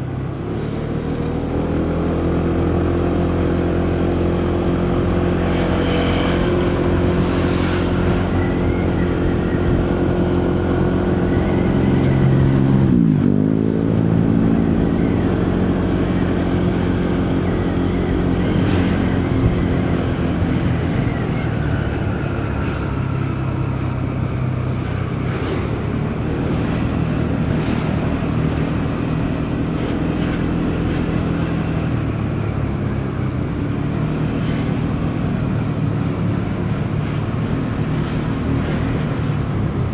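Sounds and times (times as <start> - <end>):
city traffic passing: 0.0 - 39.9
motorcycle engine running: 0.0 - 39.9.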